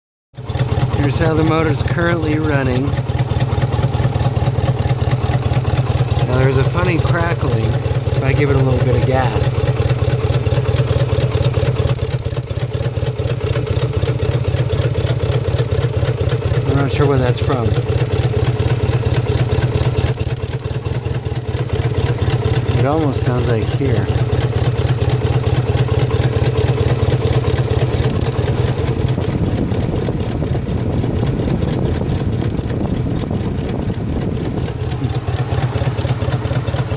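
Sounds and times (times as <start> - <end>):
car engine running: 0.4 - 36.9
rapid crackling clicks: 0.5 - 30.3, 31.5 - 36.9.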